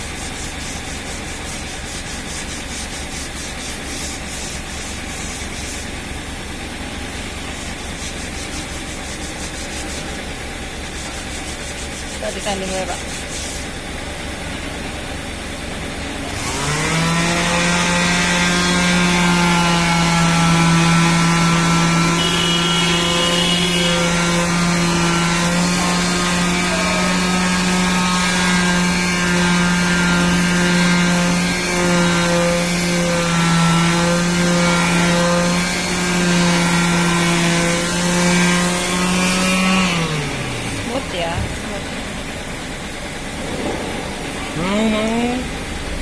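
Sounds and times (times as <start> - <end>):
power sander sanding wood: 0.0 - 14.1, 15.7 - 46.0.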